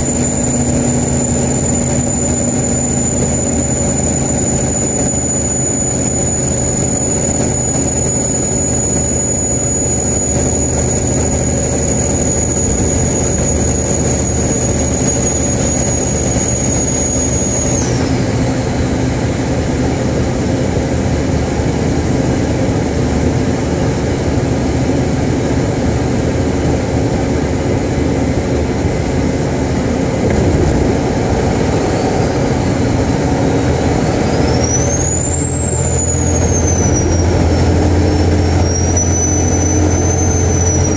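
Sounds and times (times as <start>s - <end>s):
diesel truck engine rumble: 0.0s - 40.9s
turbocharger whistling: 0.0s - 40.9s.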